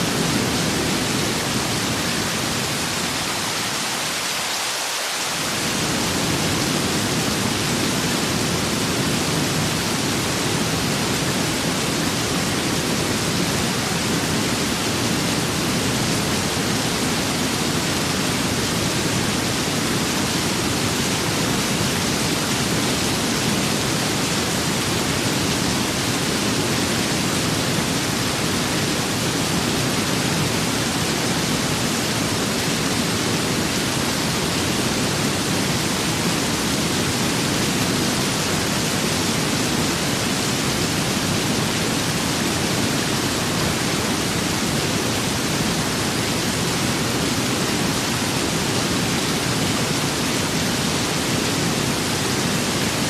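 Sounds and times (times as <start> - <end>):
steady rain and wind hiss: 0.0 - 53.0.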